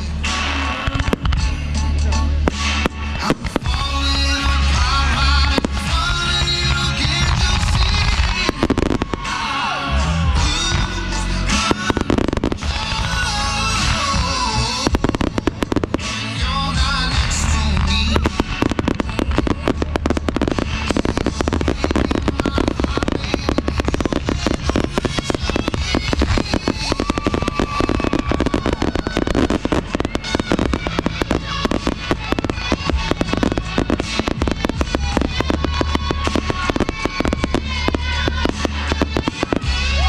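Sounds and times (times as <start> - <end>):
fireworks bangs and crackles: 0.0 - 40.0
music playing: 0.0 - 40.0.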